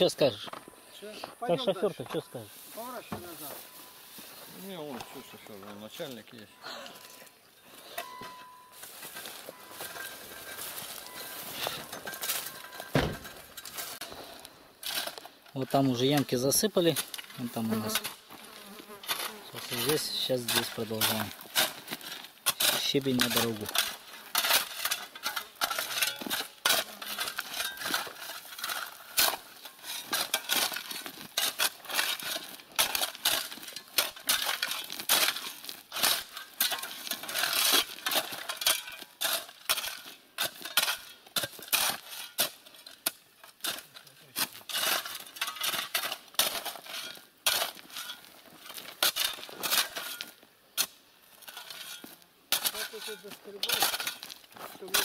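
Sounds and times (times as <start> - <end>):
gravel clinking: 0.0 - 55.0
shovels scraping crushed stone: 0.0 - 55.0.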